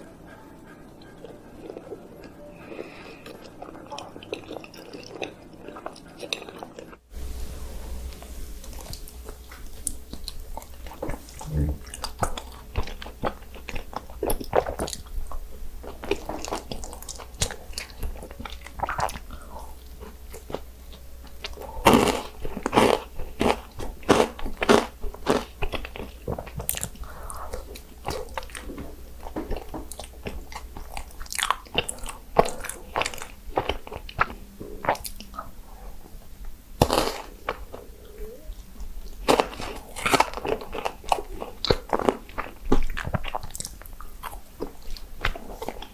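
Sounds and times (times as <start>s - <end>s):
person chewing: 0.0s - 7.1s, 7.8s - 45.9s.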